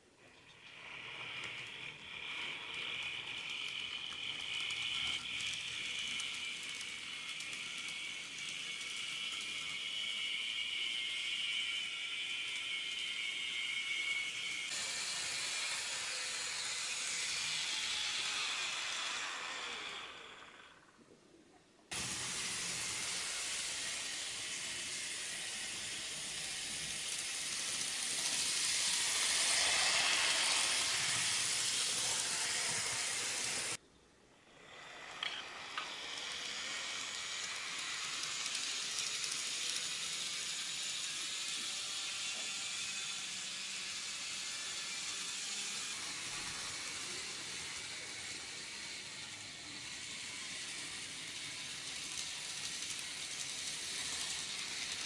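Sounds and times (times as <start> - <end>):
model trains whirring on track: 0.0 - 21.2, 21.9 - 55.0.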